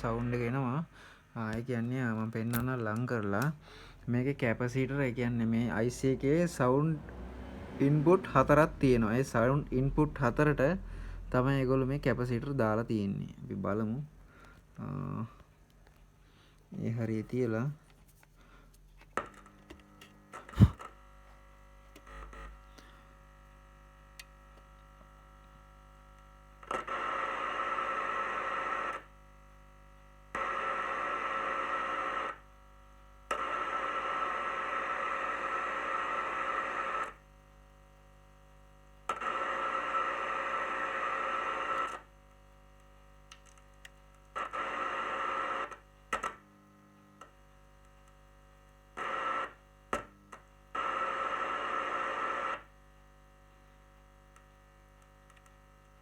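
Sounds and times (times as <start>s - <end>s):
steady electrical hum: 0.0s - 7.0s, 7.8s - 56.0s.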